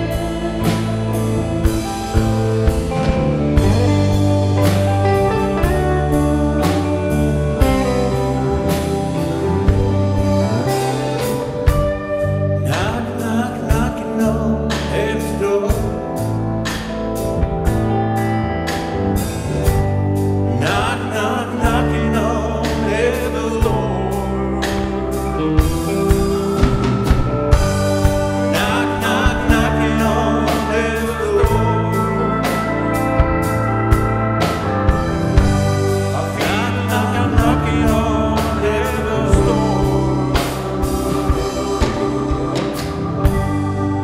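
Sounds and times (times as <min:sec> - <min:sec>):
person singing: 0:00.0 - 0:16.6, 0:20.3 - 0:44.0
rock band playing: 0:00.0 - 0:44.0.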